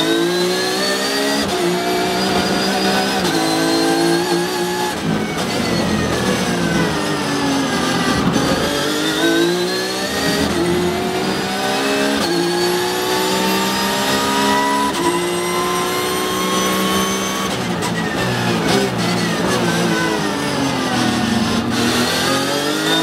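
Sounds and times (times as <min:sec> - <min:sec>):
race car engine at full throttle: 0:00.0 - 0:23.0.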